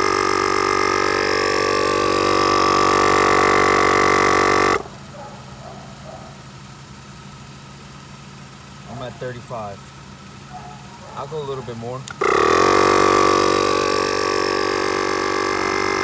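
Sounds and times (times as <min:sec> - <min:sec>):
tire inflator compressor running: 0:00.0 - 0:16.0.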